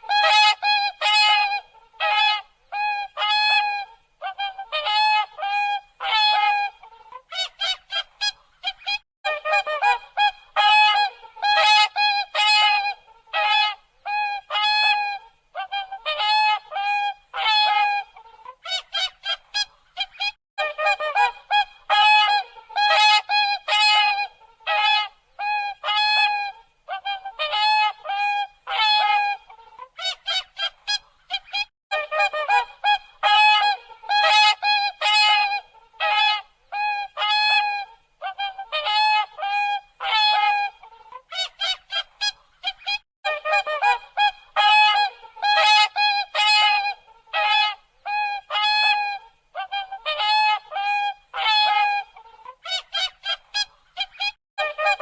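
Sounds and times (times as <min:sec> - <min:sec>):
swans honking: 0:00.0 - 0:55.0.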